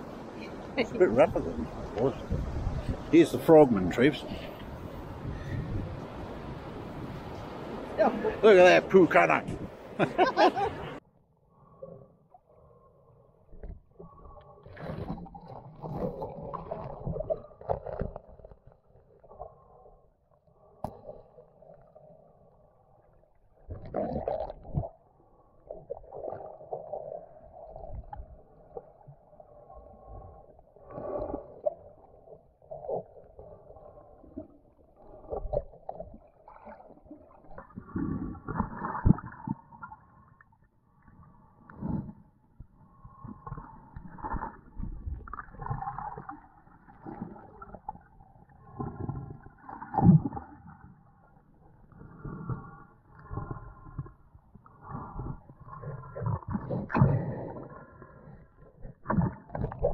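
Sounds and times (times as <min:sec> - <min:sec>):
muffled underwater water sloshing: 0:00.0 - 0:59.9.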